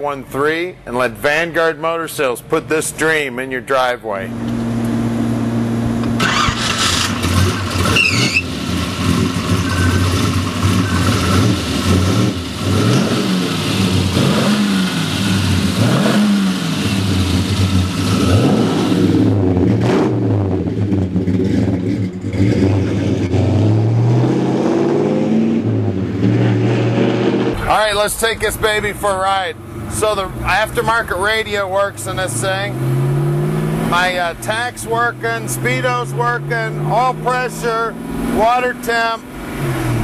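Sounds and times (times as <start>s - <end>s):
car engine revving: 4.2s - 40.0s.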